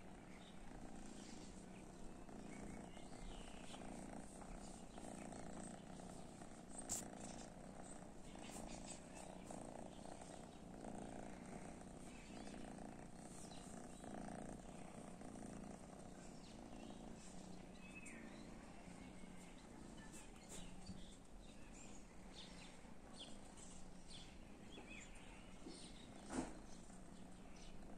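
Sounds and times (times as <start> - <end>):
cat purring: 0.0 - 27.9.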